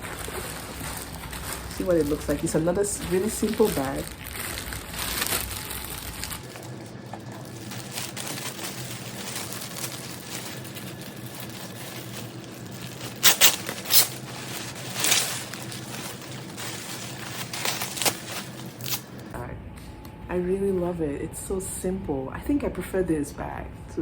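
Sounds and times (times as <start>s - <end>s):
handbag packaging rustling: 0.0s - 19.4s.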